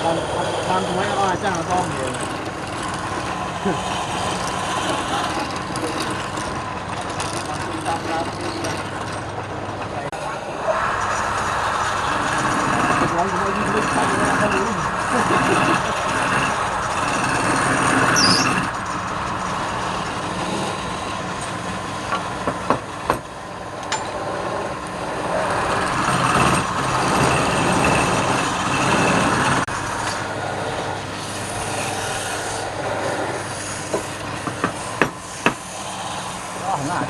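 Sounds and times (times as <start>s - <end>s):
wood lathe tool scraping wood: 0.0s - 37.0s.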